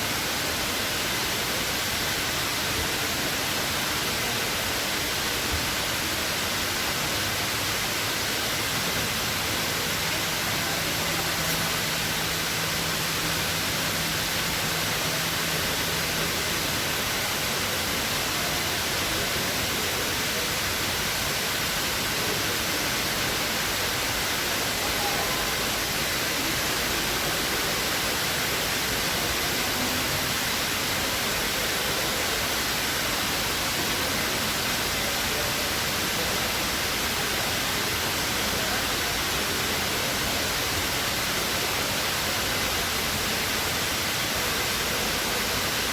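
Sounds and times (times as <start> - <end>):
indoor waterfall pouring: 0.0 - 45.9.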